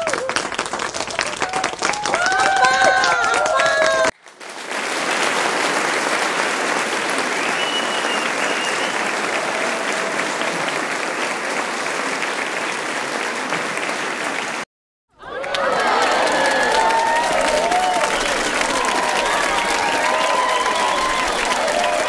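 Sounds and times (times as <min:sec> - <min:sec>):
crowd applauding: 0:00.0 - 0:22.0.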